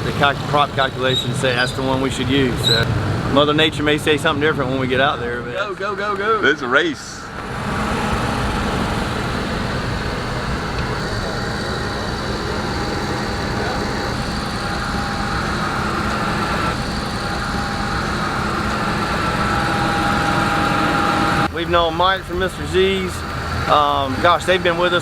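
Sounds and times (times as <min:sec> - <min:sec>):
powerboat engines running: 0:00.0 - 0:25.0.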